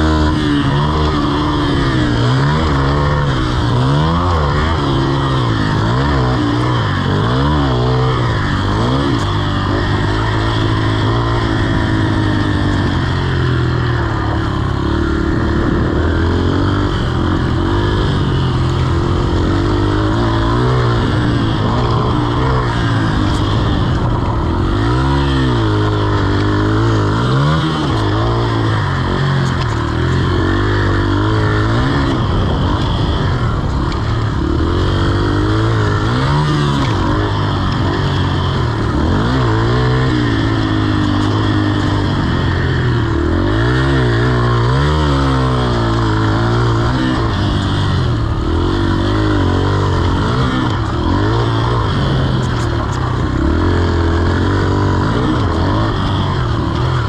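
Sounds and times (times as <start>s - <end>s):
dirt bike engine revving: 0.0s - 57.0s
wind noise: 0.0s - 57.0s.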